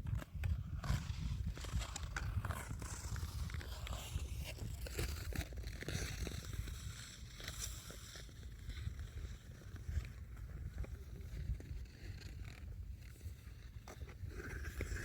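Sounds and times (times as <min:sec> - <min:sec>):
ice skates scraping on ice: 0:00.0 - 0:15.0.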